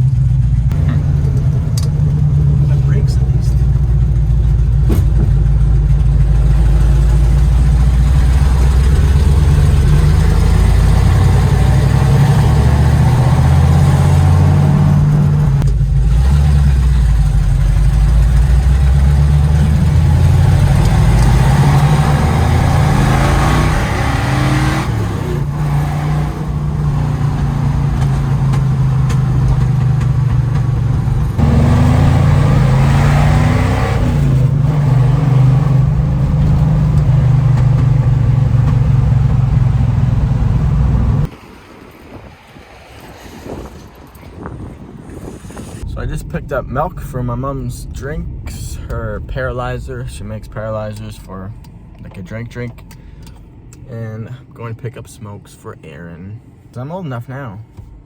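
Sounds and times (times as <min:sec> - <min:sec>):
car engine rumbling: 0:00.0 - 0:58.0.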